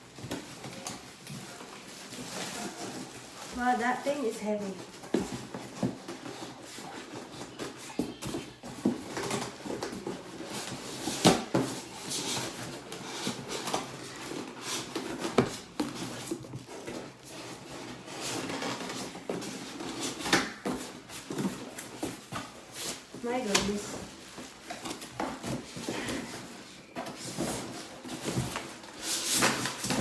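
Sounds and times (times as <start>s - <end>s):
cardboard rustling and scraping: 0.0s - 30.0s.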